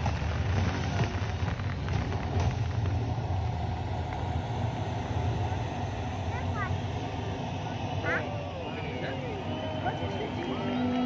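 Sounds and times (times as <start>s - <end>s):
fireworks crackling and popping: 0.0s - 9.2s
low rumble: 0.0s - 11.0s.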